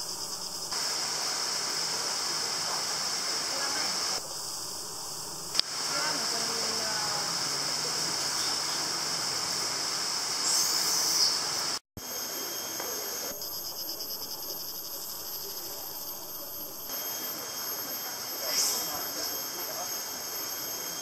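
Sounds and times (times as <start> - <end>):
forest insects droning: 0.0 - 21.0.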